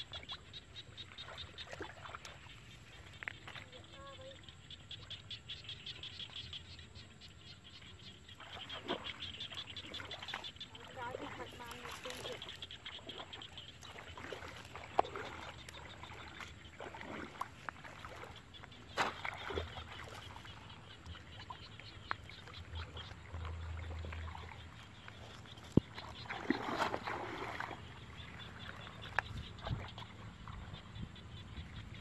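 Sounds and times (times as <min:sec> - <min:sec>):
water sloshing and splashing: 0:00.0 - 0:04.8, 0:08.2 - 0:32.0.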